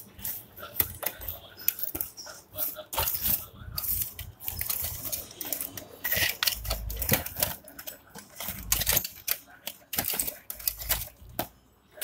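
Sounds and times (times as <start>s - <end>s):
plastic packaging clicks and crinkles: 0.0s - 12.0s.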